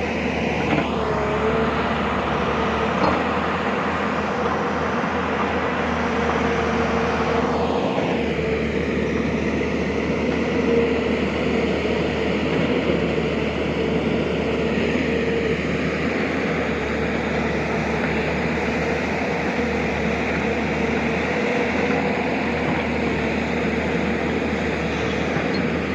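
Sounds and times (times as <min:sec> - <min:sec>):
diesel engine of heavy machinery: 0:00.0 - 0:25.9.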